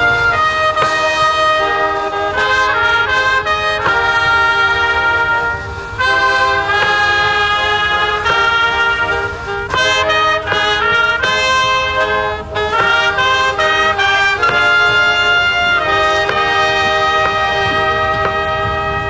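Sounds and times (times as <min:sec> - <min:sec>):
brass band playing chords: 0:00.0 - 0:19.0.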